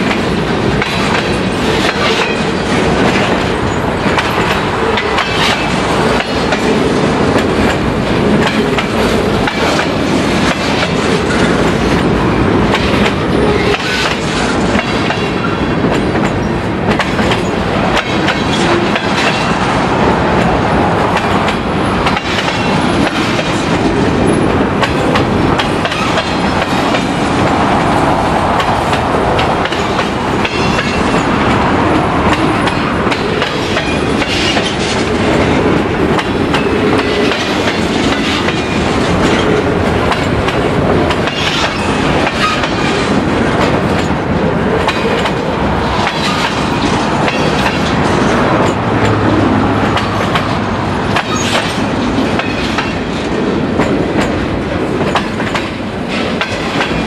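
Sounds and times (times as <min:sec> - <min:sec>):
freight train wheels on rails: 0:00.0 - 0:57.0
wheels clacking over rail joints: 0:00.0 - 0:57.0.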